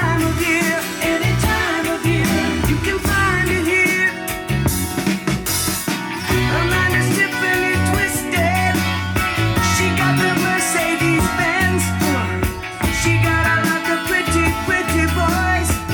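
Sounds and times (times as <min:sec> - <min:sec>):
bass line: 0:00.0 - 0:15.9
rock music with guitar: 0:00.0 - 0:15.9.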